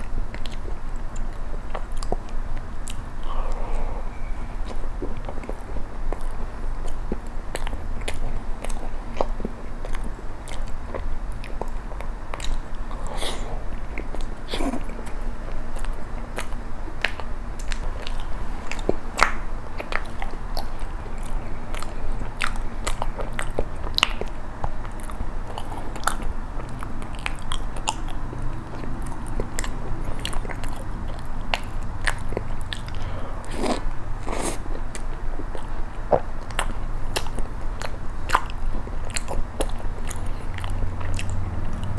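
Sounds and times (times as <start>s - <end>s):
chewing soft bread: 0.0s - 41.9s
wet mouth clicks and smacks: 4.6s - 13.4s, 15.8s - 41.9s.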